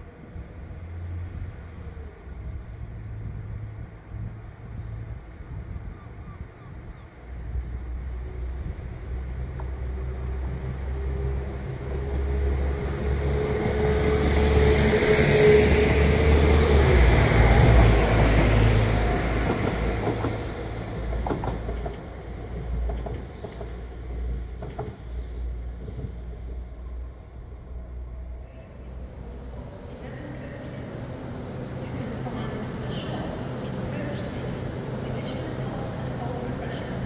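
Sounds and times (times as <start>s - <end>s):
train passing: 7.1s - 37.0s.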